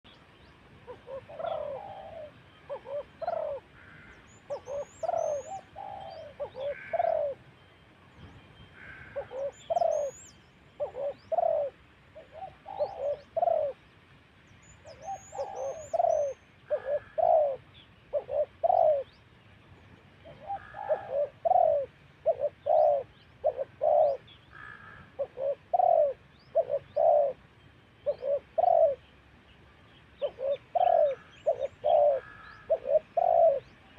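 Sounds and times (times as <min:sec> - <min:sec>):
small birds chirping: 0:00.0 - 0:33.9
dove cooing: 0:00.8 - 0:07.6, 0:08.7 - 0:13.8, 0:14.8 - 0:19.2, 0:20.2 - 0:29.1, 0:30.2 - 0:33.9.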